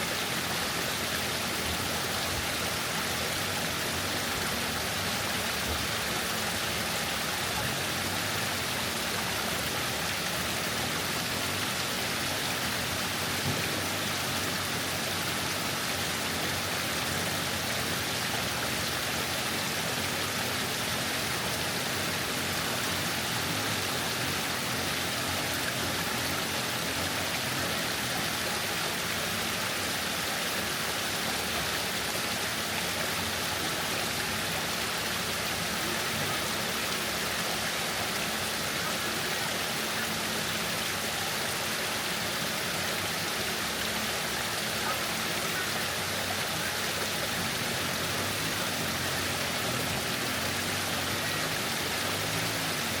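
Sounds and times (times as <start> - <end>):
waterfall rushing and splashing: 0.0 - 53.0.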